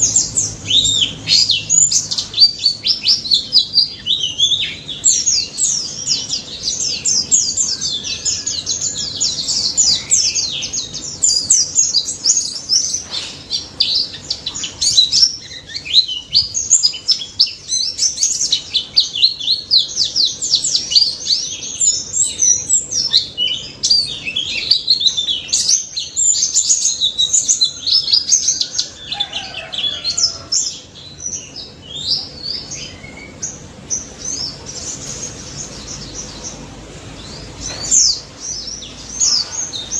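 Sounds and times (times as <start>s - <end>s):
white-eye bird singing: 0.0s - 39.9s.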